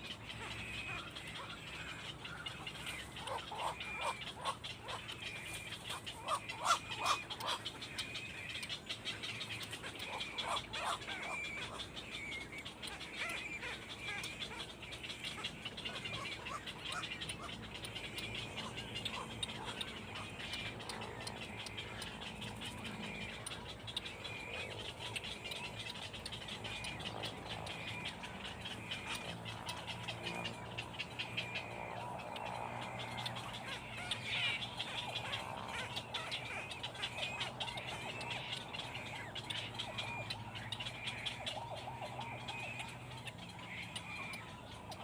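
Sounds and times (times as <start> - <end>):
birds chirping: 0.0 - 45.0
frogs calling: 0.0 - 45.0.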